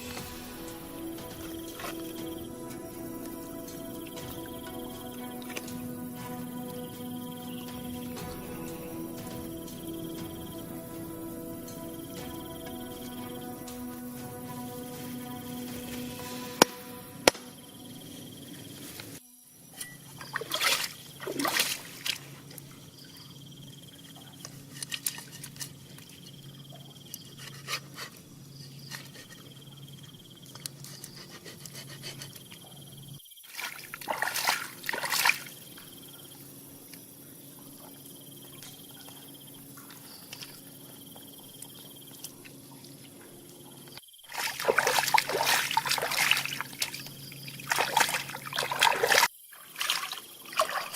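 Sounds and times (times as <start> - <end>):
water splashing and trickling: 0.0 - 19.2, 20.1 - 28.0, 33.4 - 50.9
insects chirring: 0.0 - 50.9.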